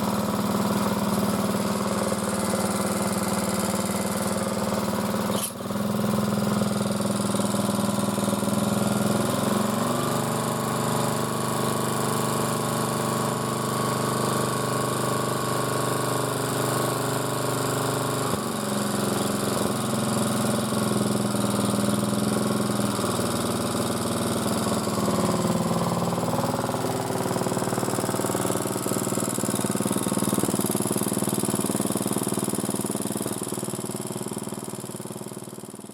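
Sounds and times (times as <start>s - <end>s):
small petrol engine running: 0.0s - 35.9s.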